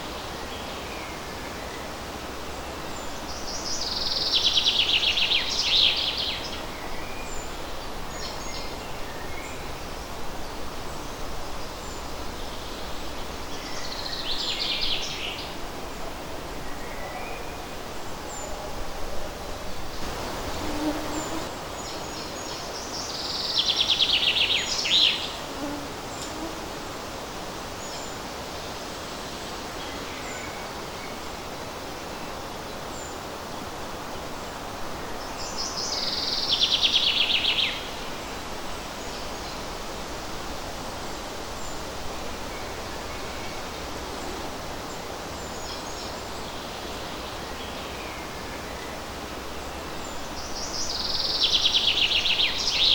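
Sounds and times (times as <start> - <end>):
breeze in leaves: 0.0 - 52.9.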